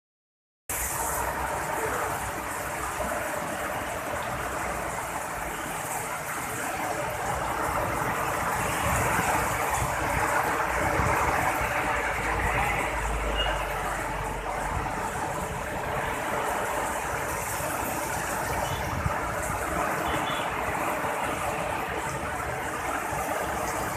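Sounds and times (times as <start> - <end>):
heavy rain pouring: 0.7 - 23.9.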